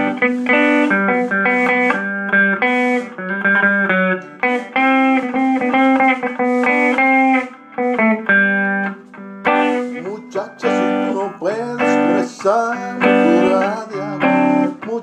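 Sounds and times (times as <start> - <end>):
electric guitar playing: 0.0 - 15.0.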